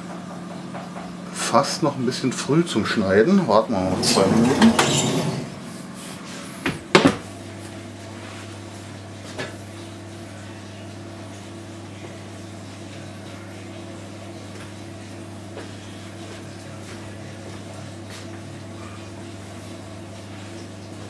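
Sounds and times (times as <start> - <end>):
oven electric hum: 0.0 - 21.0.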